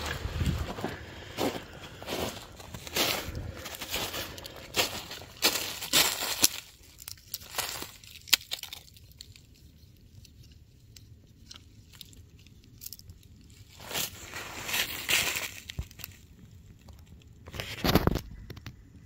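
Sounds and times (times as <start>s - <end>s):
twigs rustling: 0.0s - 18.7s.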